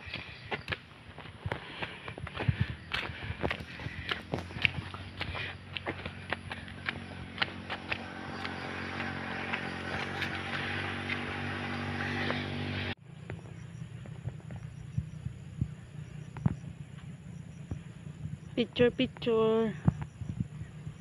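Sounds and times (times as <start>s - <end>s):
engine hum: 0.0s - 21.0s
footsteps on paved road: 0.0s - 21.0s
insect chirps: 0.0s - 21.0s.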